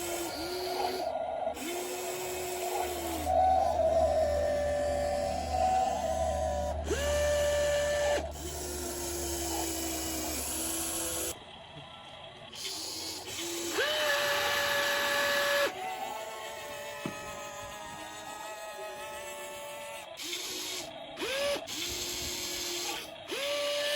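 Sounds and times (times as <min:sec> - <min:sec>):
toy excavator motors whining: 0:00.0 - 0:23.9.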